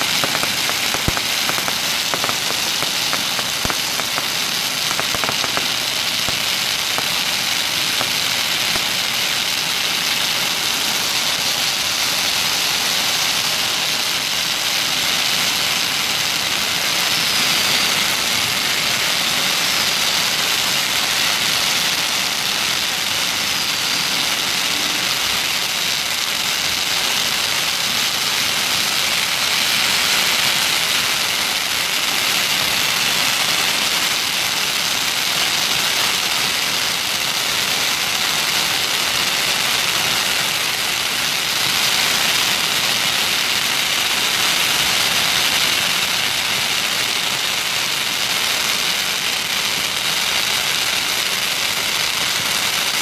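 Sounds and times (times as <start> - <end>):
firecrackers crackling: 0.0 - 53.0.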